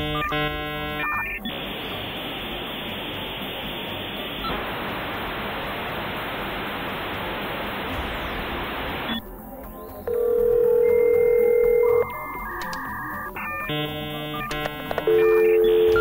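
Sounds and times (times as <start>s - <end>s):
electronic static hiss: 0.0s - 16.0s.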